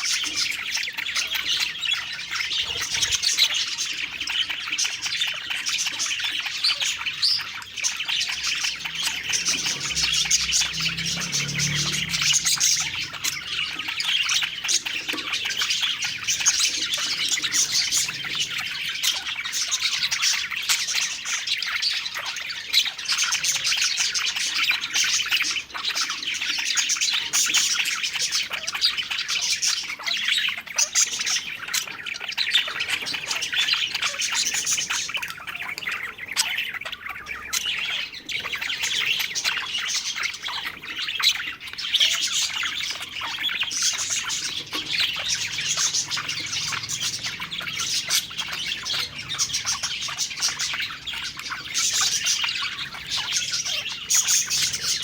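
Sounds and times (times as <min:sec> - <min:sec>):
bird squawk: 0:00.0 - 0:55.0
budgerigars chattering and chirping: 0:00.0 - 0:55.0.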